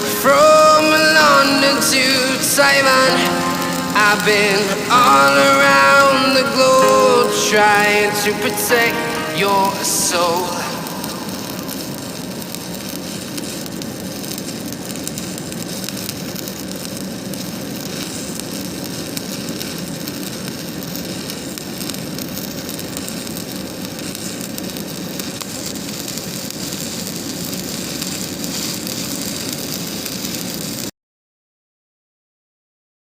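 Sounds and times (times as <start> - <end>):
arc welding crackle: 0.0 - 30.9.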